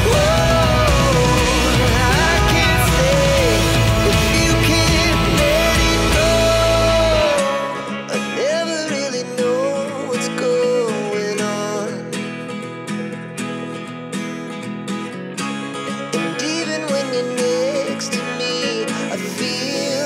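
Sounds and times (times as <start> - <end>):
song with acoustic guitar: 0.0 - 20.0.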